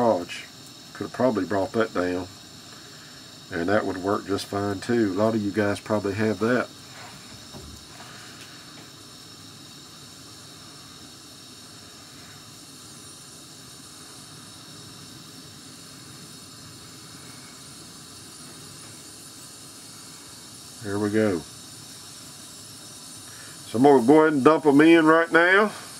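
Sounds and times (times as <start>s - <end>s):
heating liquid hissing: 0.0s - 25.9s.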